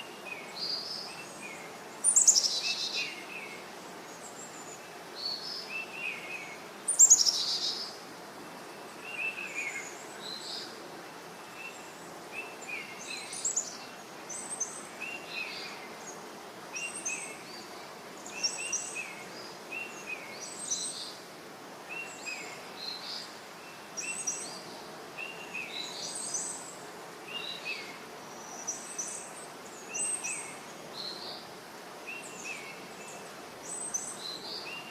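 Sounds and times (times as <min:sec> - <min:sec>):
background hiss: 0:00.0 - 0:34.9
songbirds chirping: 0:00.0 - 0:34.9.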